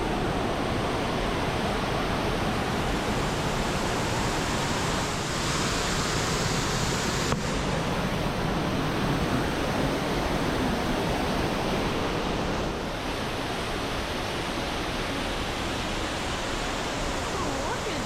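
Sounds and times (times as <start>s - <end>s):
waterfall rushing: 2.2s - 18.0s.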